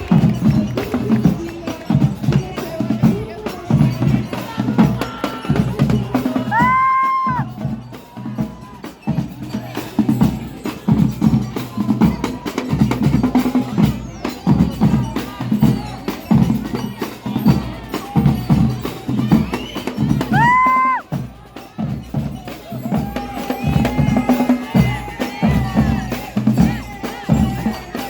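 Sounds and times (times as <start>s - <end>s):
marching band drums: 0.0s - 28.0s.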